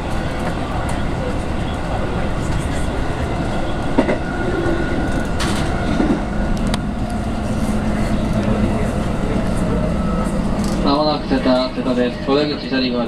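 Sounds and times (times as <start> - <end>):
steady low hum: 0.0 - 13.0
train rolling noise: 0.0 - 13.0.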